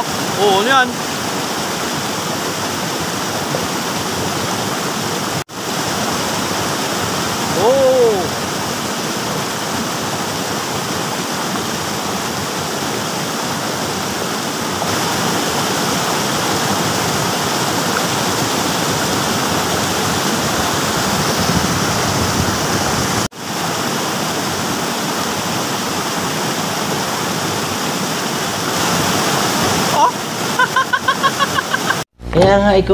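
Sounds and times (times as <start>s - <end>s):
stream rushing over boulders: 0.0s - 32.1s.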